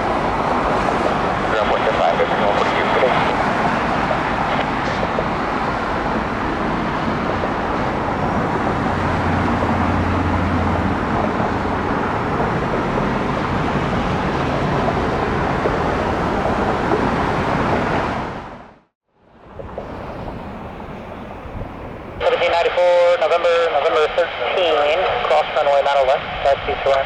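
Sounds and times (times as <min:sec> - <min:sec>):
jet engine roar: 0:00.0 - 0:18.8, 0:19.4 - 0:27.0.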